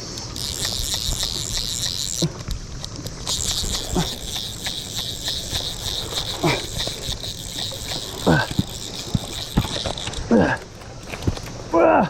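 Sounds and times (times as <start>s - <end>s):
cicadas buzzing: 0.0s - 11.8s.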